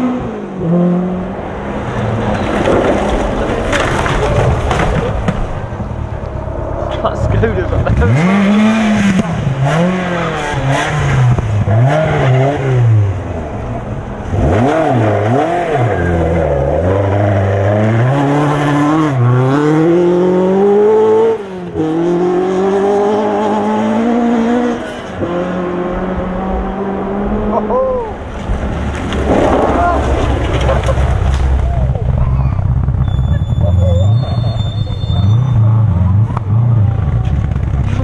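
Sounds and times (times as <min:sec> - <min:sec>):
rally car engines revving: 0:00.0 - 0:38.0.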